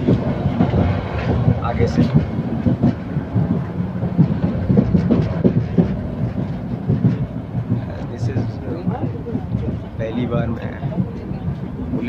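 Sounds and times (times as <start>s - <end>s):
knocks and rattles: 0.0s - 12.0s
train running rumble: 0.0s - 12.0s.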